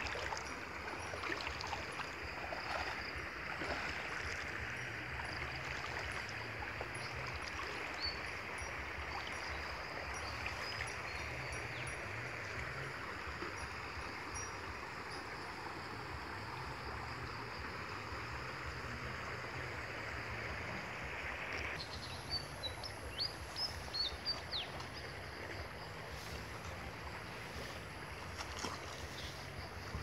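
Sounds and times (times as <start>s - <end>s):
creek water rushing and gurgling: 0.0s - 30.0s.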